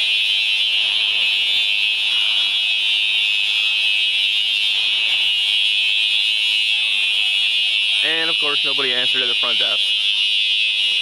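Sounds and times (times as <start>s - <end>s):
fire alarm tone: 0.0s - 11.0s.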